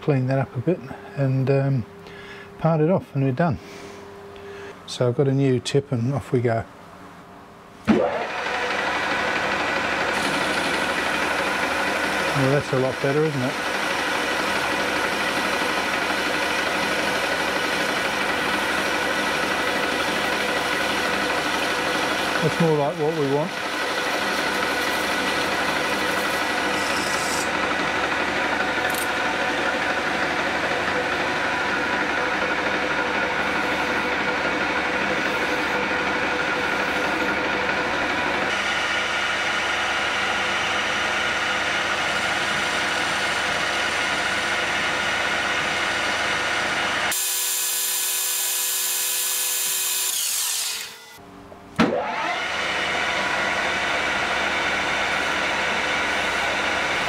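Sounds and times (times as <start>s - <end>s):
metal lathe machining with whine: 7.9s - 51.2s, 52.0s - 57.0s.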